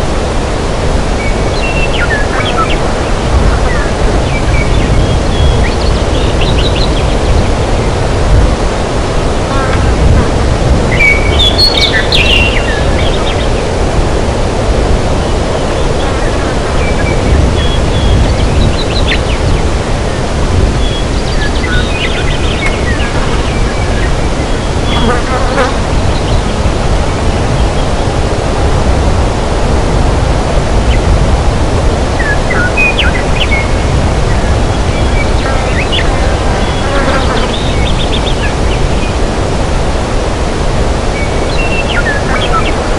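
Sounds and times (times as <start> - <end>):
low steady rushing noise: 0.0 - 42.9.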